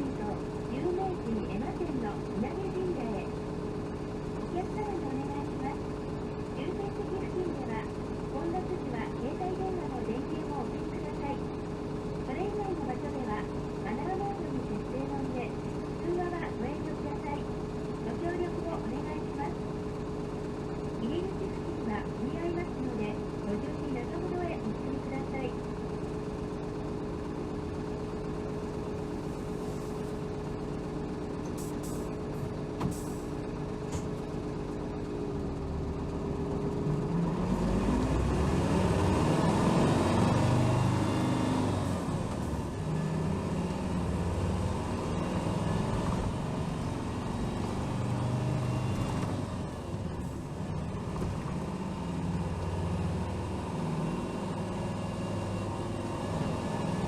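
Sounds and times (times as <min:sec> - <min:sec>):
bus diesel engine idling and accelerating: 0:00.0 - 0:57.0.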